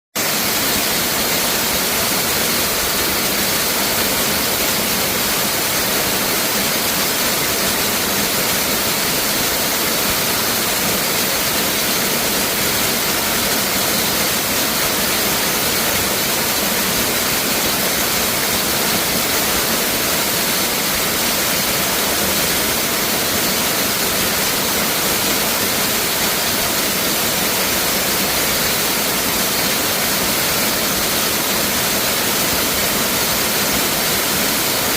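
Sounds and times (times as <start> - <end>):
waterfall pouring: 0.2 - 34.9.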